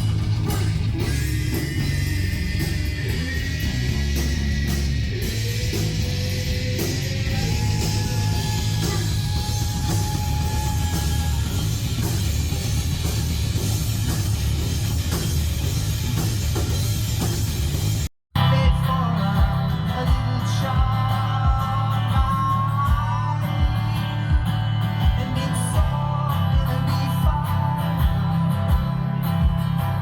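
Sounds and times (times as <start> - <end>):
rock music with drums and guitar: 0.0 - 30.0.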